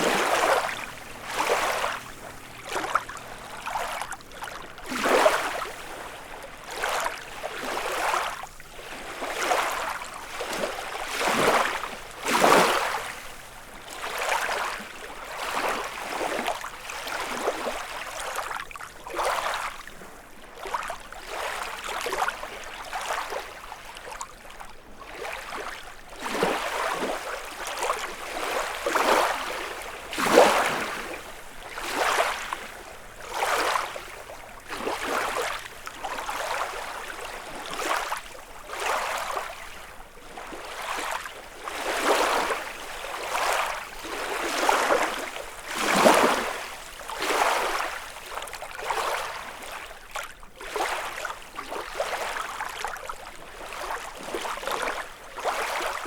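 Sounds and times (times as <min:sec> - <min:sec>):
waves lapping on shore: 0:00.0 - 0:56.0.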